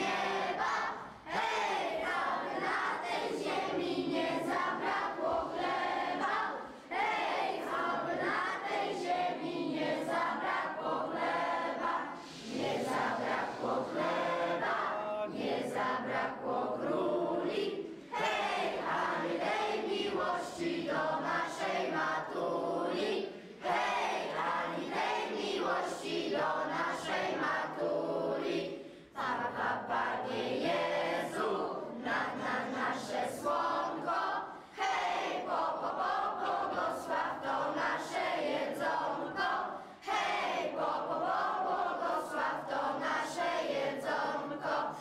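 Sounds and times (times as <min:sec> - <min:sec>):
children singing together: 0:00.0 - 0:45.0.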